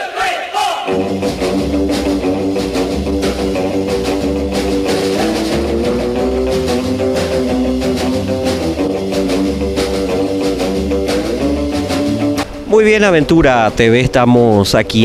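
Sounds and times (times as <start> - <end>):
rock music with guitar and drums: 0.9 - 15.0.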